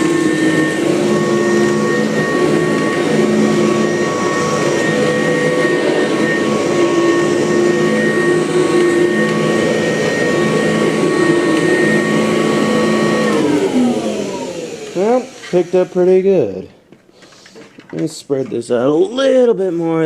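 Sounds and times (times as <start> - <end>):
vacuum cleaner running: 0.0 - 16.7.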